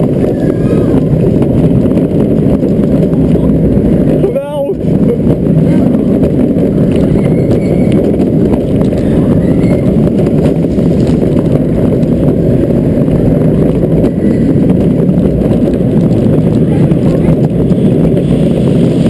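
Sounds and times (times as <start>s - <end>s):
roller coaster wheels on steel track: 0.0s - 19.0s
wind buffeting microphone: 0.0s - 19.0s.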